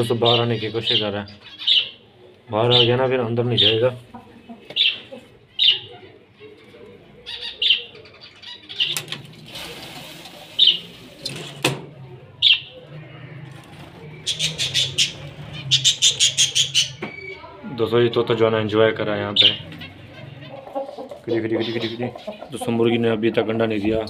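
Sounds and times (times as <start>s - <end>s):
small birds chirping: 0.0s - 9.4s, 10.4s - 11.2s, 12.3s - 17.8s, 18.9s - 23.1s.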